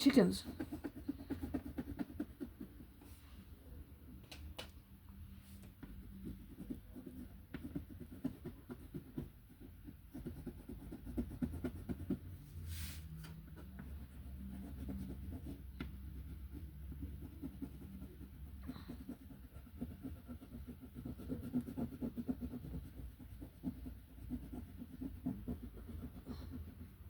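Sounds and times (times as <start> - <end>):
colouring tool shading on paper: 0.0 - 3.0, 5.7 - 27.0
faint low hum: 0.0 - 27.0.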